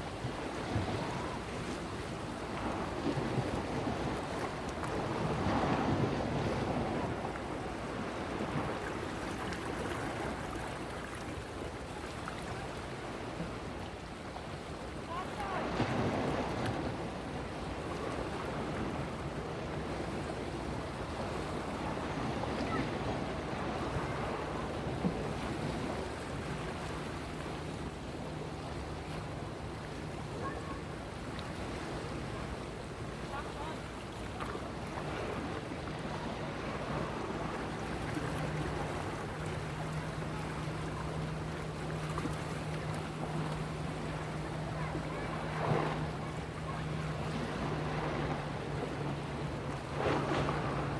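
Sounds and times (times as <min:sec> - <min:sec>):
sea water washing: 0:00.0 - 0:50.9.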